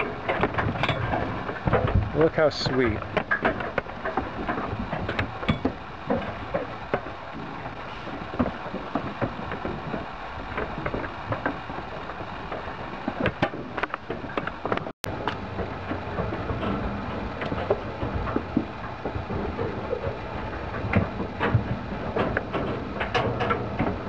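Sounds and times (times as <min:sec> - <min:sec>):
steady rushing background noise: 0:00.0 - 0:24.0.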